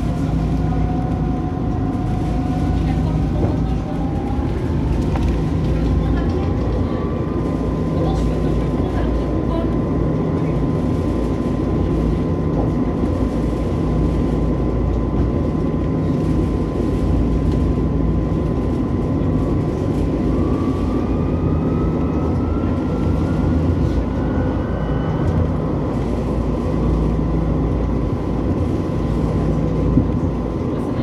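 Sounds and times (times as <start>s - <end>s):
electric traction drive whine: 0.0s - 31.0s
tram wheels rumbling on rail: 0.0s - 31.0s.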